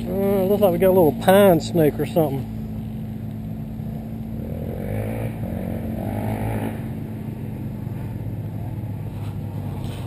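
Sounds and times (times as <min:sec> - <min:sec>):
engine idling: 0:00.0 - 0:04.7, 0:06.6 - 0:10.0.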